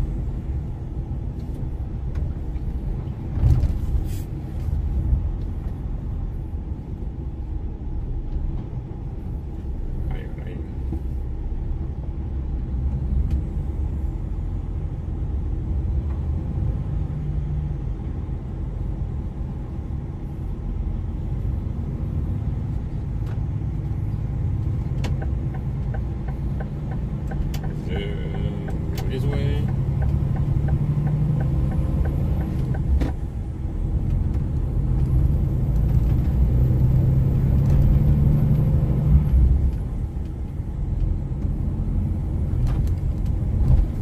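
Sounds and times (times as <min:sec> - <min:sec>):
diesel engine drone: 0:00.0 - 0:44.0
road noise: 0:00.0 - 0:44.0.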